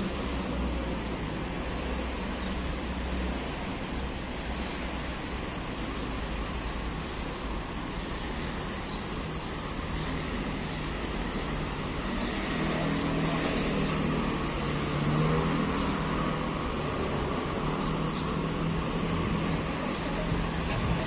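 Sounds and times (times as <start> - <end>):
cars driving past: 0.0 - 21.0.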